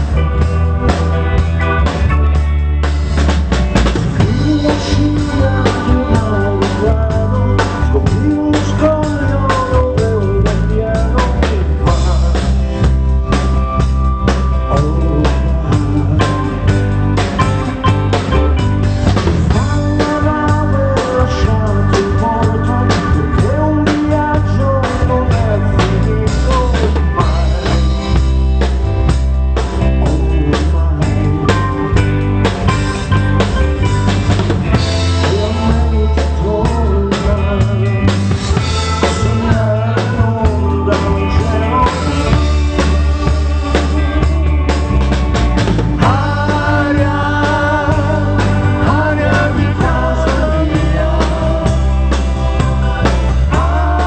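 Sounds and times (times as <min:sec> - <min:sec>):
live pop band playing: 0:00.0 - 0:54.0.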